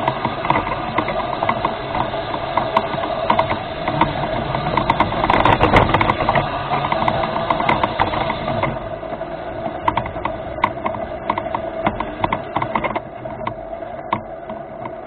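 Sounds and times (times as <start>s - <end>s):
clicks and rattles: 0.0s - 15.0s.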